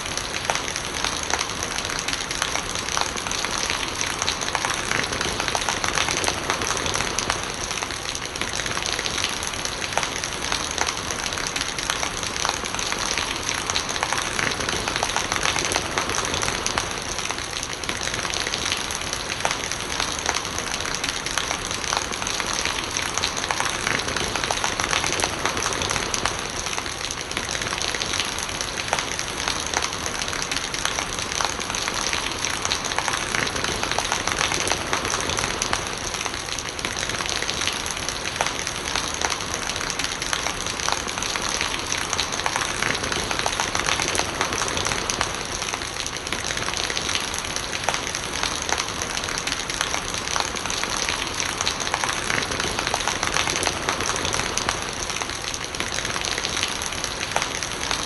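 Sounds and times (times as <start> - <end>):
rain patter: 0.0 - 58.0
rainwater running and gurgling: 0.0 - 58.0.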